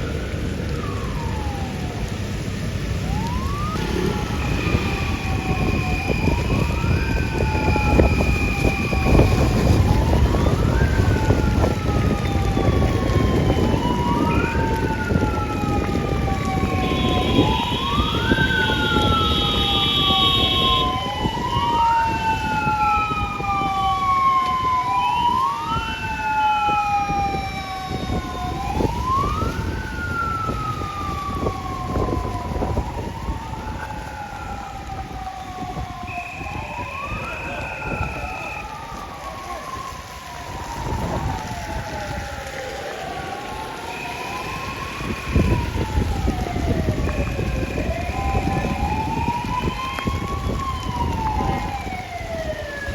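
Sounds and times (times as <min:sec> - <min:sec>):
engine and road rumble: 0:00.0 - 0:52.9
fire engine siren wailing: 0:00.0 - 0:52.9.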